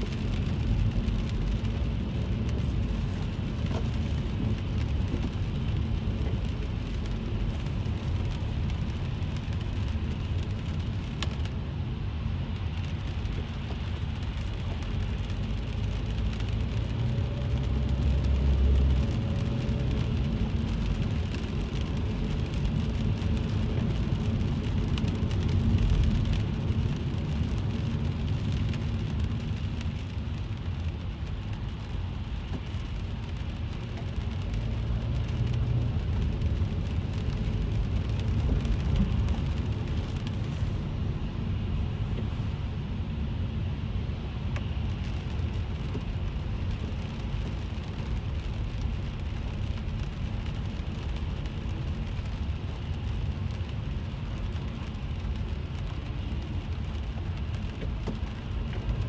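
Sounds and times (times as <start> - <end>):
car and road rumble: 0.0 - 59.0
rain drops ticking on car roof: 0.0 - 59.0.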